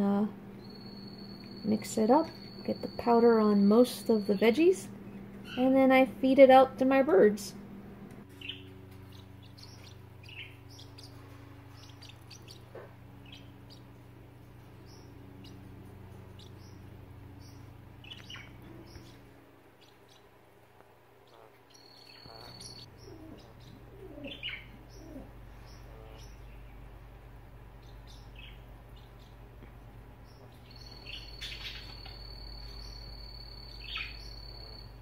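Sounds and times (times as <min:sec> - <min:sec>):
birds chirping faintly: 0:00.0 - 0:35.0
steady low hum: 0:00.0 - 0:35.0.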